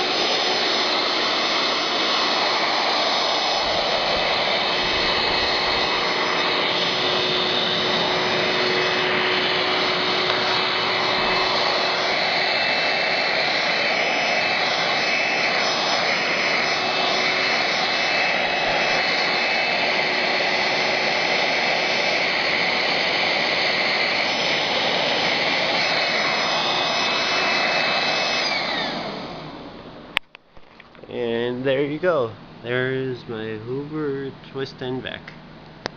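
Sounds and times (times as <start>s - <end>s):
handheld vacuum cleaner running: 0.0s - 30.2s.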